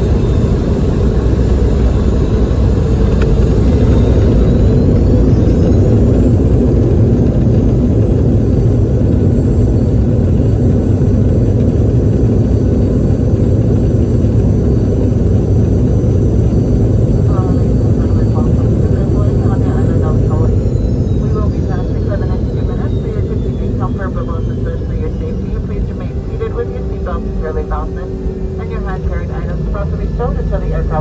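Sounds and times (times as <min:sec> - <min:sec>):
jet engine whine rising: 0:00.0 - 0:31.0
jet engines rumbling: 0:00.0 - 0:31.0.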